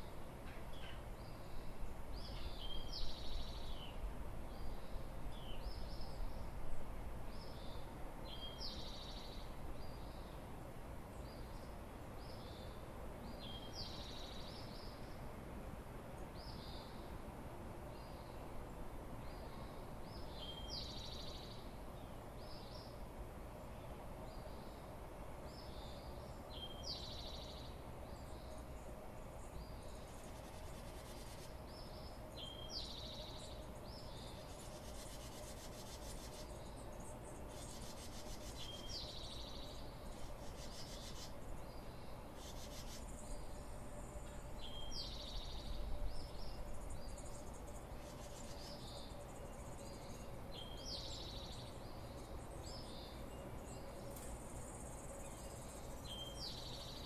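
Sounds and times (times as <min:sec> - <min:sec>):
songbird high song phrase: 0:00.0 - 0:06.6, 0:07.3 - 0:10.5, 0:11.2 - 0:15.2, 0:19.3 - 0:23.0, 0:23.8 - 0:57.0
faint steady hum: 0:00.0 - 0:57.0.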